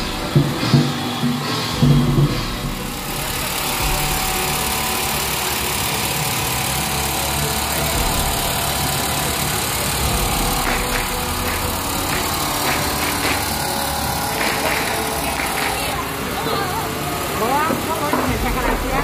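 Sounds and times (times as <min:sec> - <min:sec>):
drum beats: 0:00.0 - 0:19.0
motor engine running: 0:00.0 - 0:19.0.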